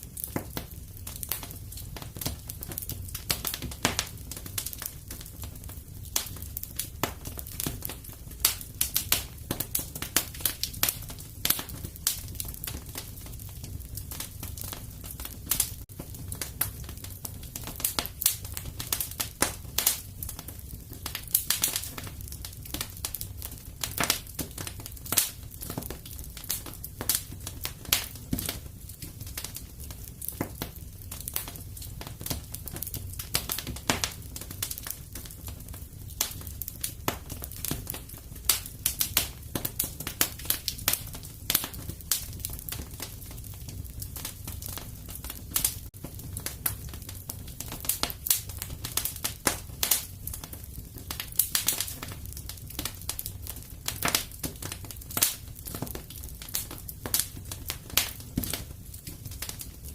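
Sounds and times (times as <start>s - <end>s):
fire crackling in fireplace: 0.0s - 59.9s
low rumble of flames: 0.0s - 59.9s.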